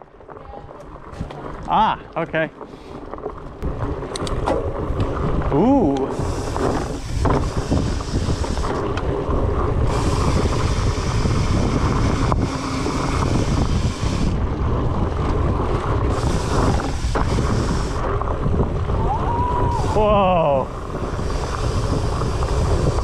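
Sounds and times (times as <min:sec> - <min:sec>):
low rumble of bike tyres: 0:00.0 - 0:23.0
wind rushing over microphone: 0:03.6 - 0:23.0.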